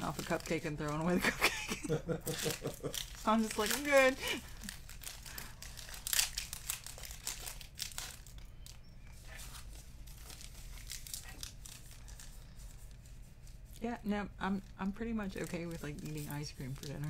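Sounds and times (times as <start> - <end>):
wrappers crinkling and tearing: 0.0 - 17.0.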